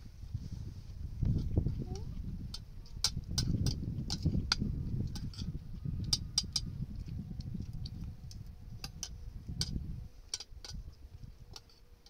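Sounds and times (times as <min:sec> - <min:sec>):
low rumble: 0:00.0 - 0:10.1.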